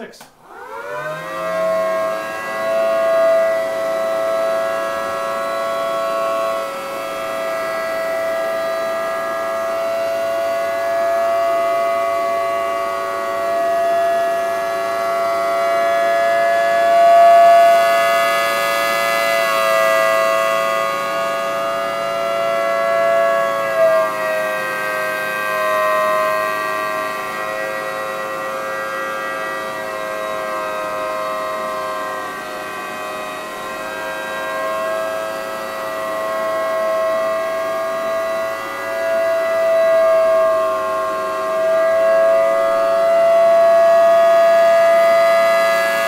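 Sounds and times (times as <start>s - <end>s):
siren sounding a steady chord: 0.0s - 46.0s.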